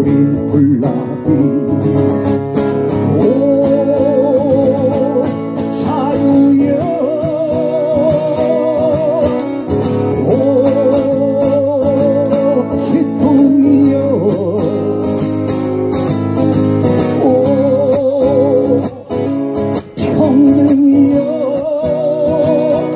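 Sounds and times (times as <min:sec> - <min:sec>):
acoustic guitar: 0:00.0 - 0:22.9.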